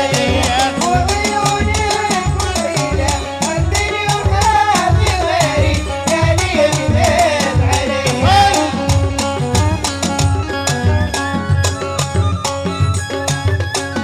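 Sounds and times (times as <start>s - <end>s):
drum and percussion beat: 0.0s - 14.0s
wavering melody line: 1.1s - 14.0s.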